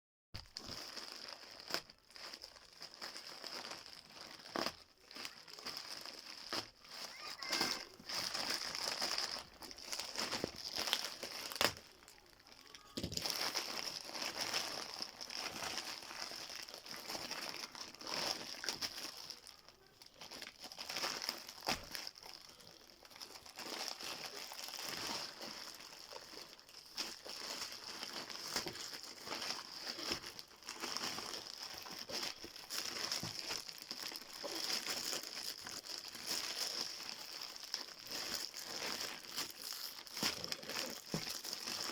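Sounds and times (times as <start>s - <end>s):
packaging crinkling and rustling: 0.4s - 41.9s.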